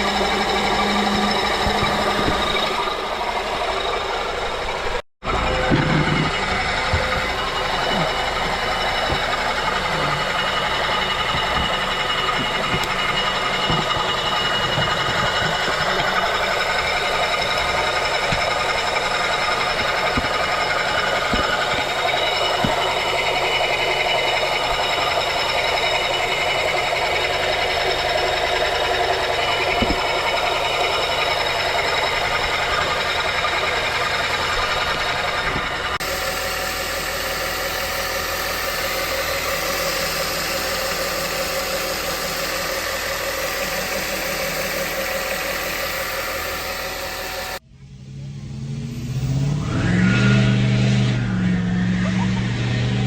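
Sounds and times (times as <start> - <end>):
light engine ticks: 0.0 - 47.6
car engine running: 0.0 - 53.0.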